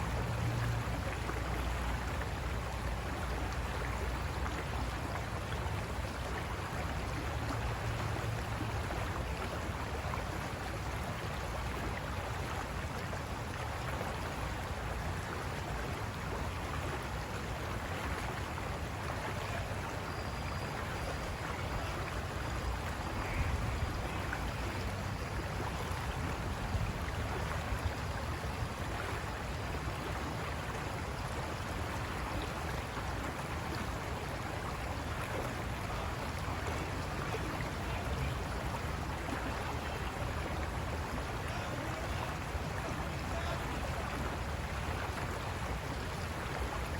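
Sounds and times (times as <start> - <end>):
river water rushing over rocks: 0.0 - 46.9.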